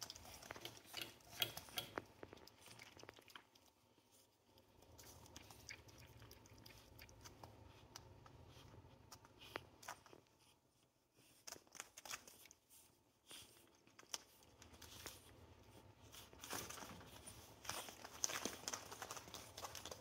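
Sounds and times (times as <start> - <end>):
puppy paws scratching on mat: 0.0 - 20.0.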